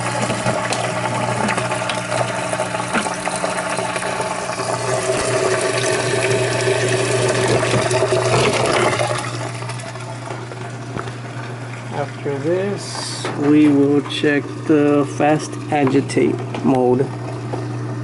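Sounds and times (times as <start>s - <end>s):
drain pump humming: 0.0s - 18.0s.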